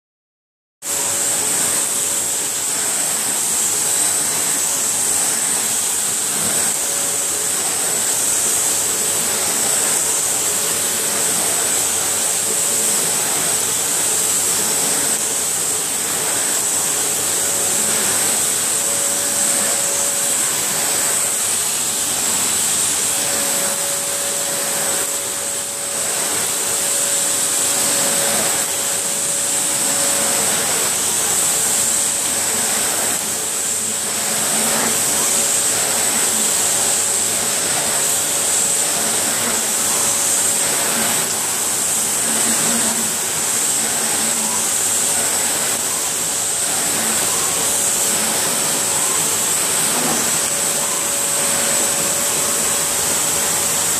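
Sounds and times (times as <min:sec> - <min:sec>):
vacuum cleaner running on carpet: 0:00.8 - 0:53.9.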